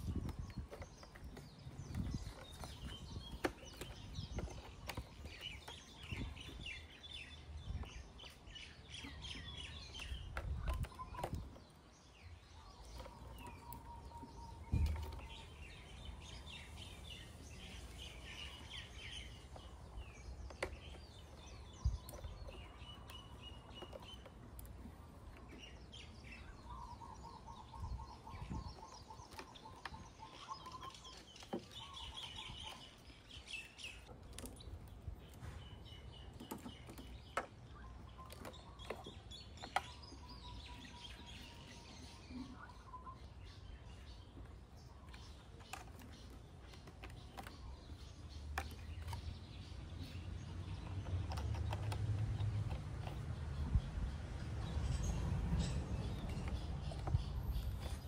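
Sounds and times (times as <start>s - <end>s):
birds chirping in trills: 0.0s - 58.0s.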